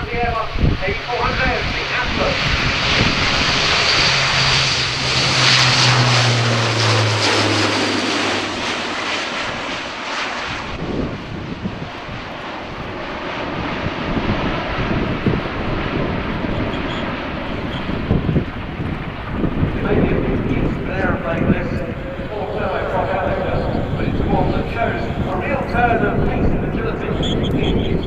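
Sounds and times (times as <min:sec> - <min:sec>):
turboprop engines droning: 0:00.0 - 0:28.0.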